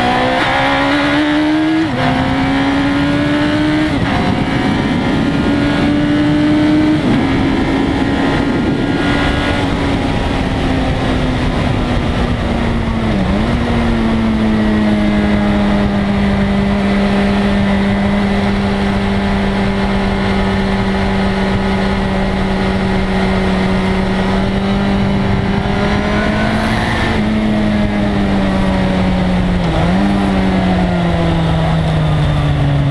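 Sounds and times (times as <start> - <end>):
motorcycle engine on track: 0.0 - 32.9
wind rush: 0.0 - 32.9.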